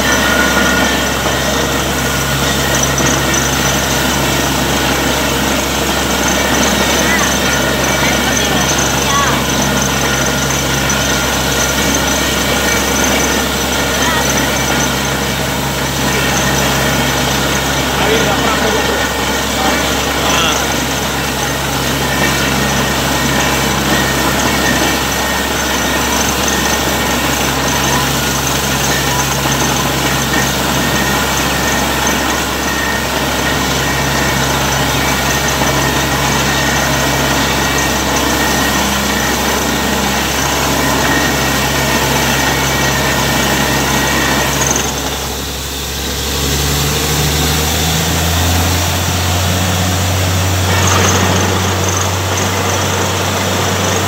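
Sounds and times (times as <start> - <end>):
drilling rig engine and compressor: 0.0 - 54.0.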